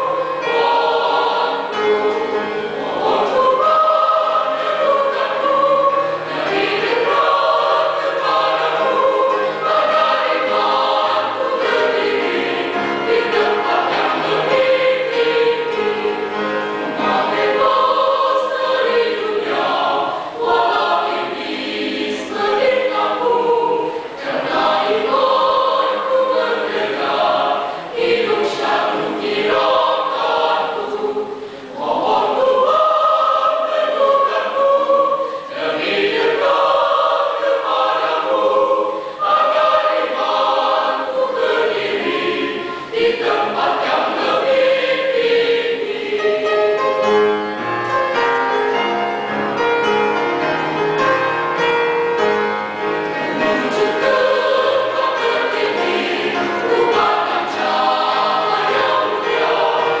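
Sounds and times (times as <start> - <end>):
mixed choir singing a hymn: 0.0 - 60.0.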